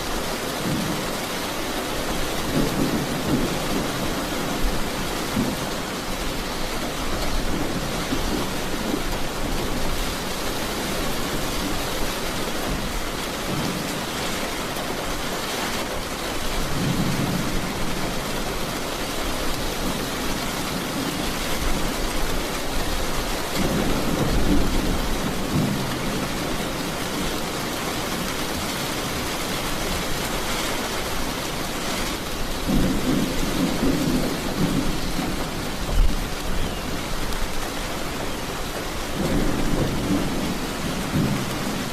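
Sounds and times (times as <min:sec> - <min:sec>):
heavy rain falling: 0:00.0 - 0:41.9
thunder rumbling: 0:02.0 - 0:14.2, 0:16.5 - 0:30.4, 0:31.1 - 0:41.9.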